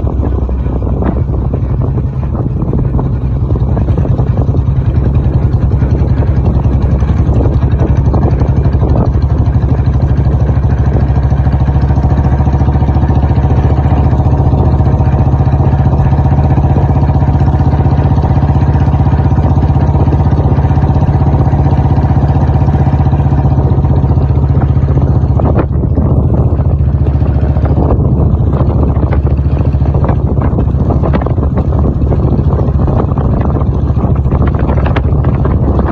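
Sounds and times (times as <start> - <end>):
motorcycle engine thumping: 0.0 - 35.9.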